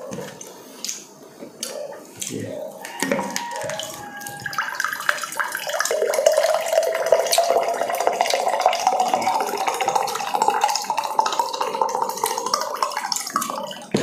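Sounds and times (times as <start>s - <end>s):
water pouring into a glass: 2.7s - 14.0s.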